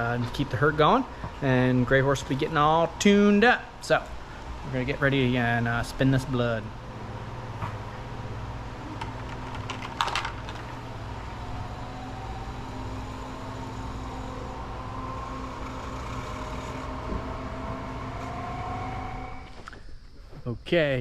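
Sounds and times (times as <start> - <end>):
centrifuge whine: 0.0 - 20.6.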